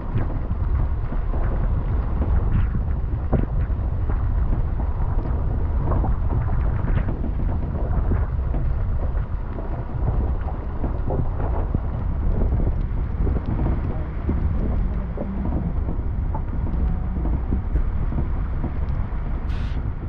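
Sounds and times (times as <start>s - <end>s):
engine and tyres rumbling: 0.0s - 20.0s
wind buffeting microphone: 0.0s - 20.0s.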